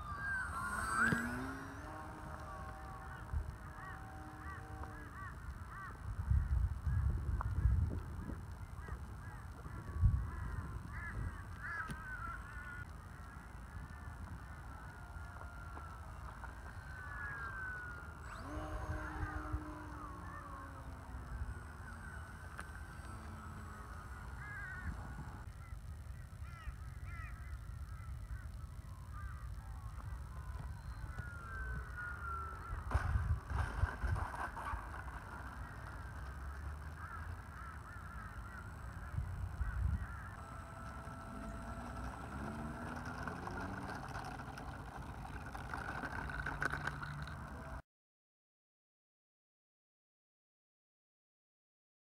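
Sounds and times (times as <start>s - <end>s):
electric motor whining: 0.0s - 25.5s, 29.9s - 47.8s
birds calling: 0.0s - 47.8s
wind rumbling on microphone: 0.0s - 47.8s.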